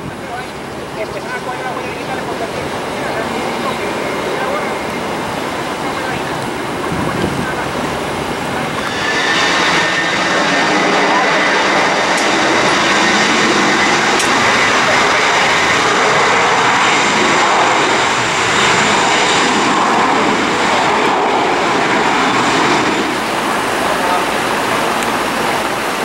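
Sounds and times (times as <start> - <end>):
jet engines running with high whine: 0.0 - 26.0.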